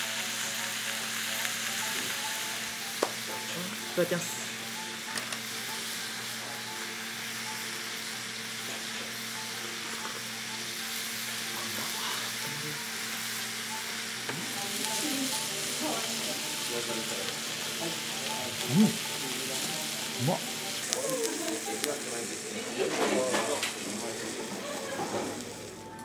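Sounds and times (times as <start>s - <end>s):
food sizzling in hot pot: 0.0s - 26.0s.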